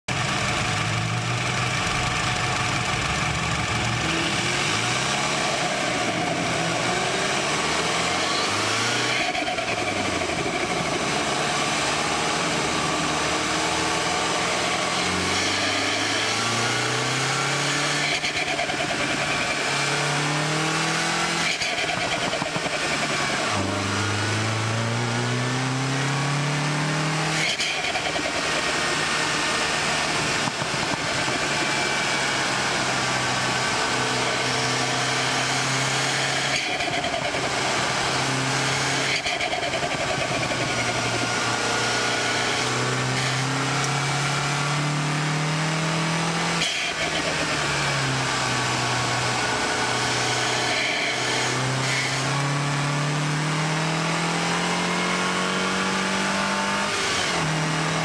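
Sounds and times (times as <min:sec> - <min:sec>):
car engine accelerating: 0:00.1 - 0:58.0.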